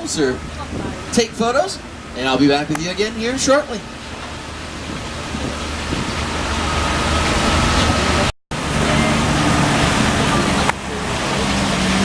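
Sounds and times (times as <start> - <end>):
tram tyre and wind noise: 0.0 - 12.0.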